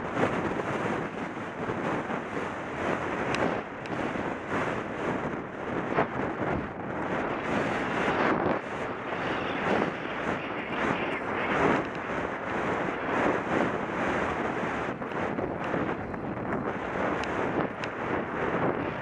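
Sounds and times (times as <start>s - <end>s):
wind rushing over camera: 0.0s - 19.0s.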